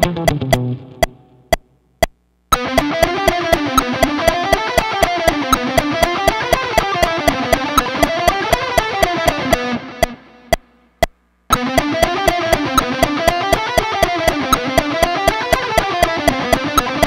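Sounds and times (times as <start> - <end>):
distorted electric guitar riff: 0.0 - 1.8, 2.5 - 17.0
metronome clicks: 0.0 - 17.0.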